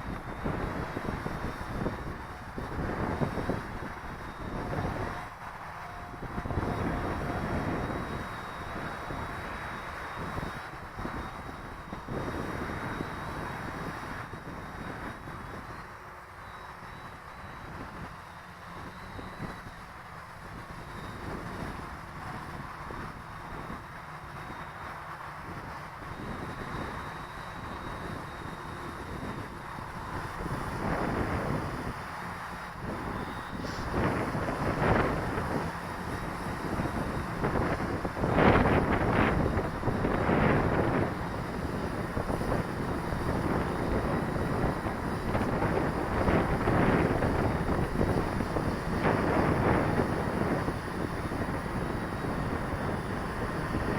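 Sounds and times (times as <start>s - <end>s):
faint high whine: 0.0s - 53.9s
wind buffeting microphone: 0.0s - 53.9s.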